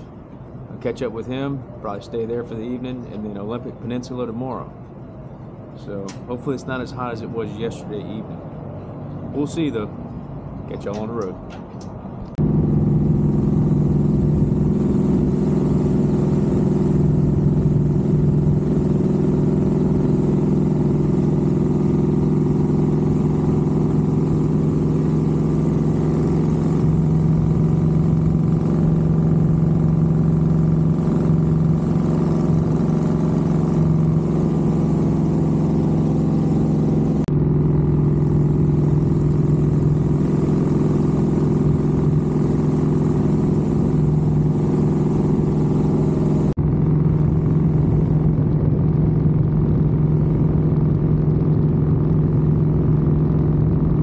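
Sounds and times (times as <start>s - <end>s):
motorcycle engine cruising: 7.7s - 54.0s.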